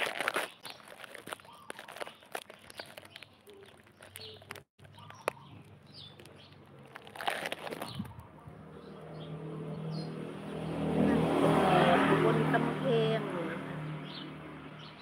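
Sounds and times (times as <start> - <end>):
faint outdoor background: 0.0 - 15.0
birds chirping: 0.5 - 7.0, 7.6 - 15.0.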